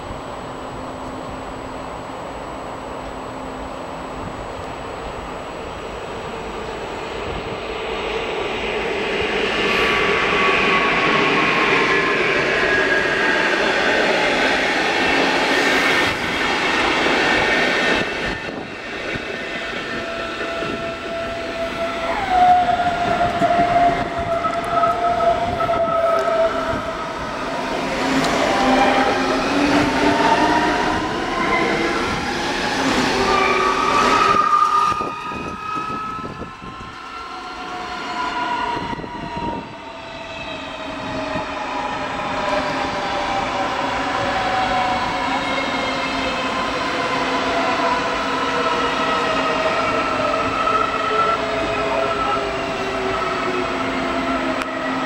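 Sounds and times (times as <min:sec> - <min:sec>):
train whining tones sliding in pitch: 0:00.1 - 0:55.0.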